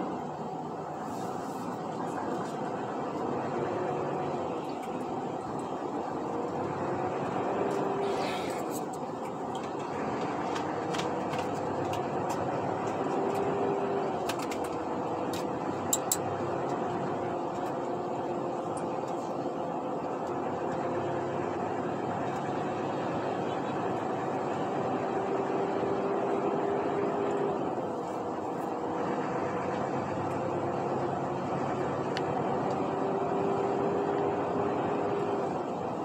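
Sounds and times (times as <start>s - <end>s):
road noise: 0.0s - 36.0s
truck engine running: 0.0s - 36.0s.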